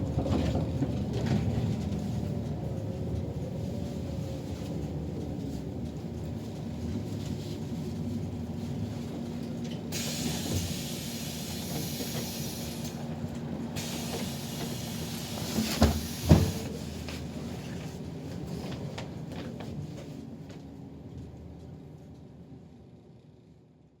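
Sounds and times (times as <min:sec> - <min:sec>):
bus engine rumble: 0:00.0 - 0:23.8.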